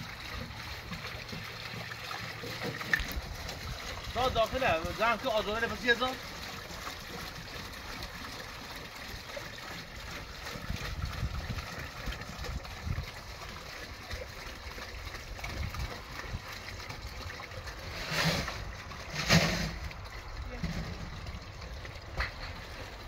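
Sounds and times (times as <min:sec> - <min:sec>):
water splashing into metal basin: 0:00.0 - 0:23.0.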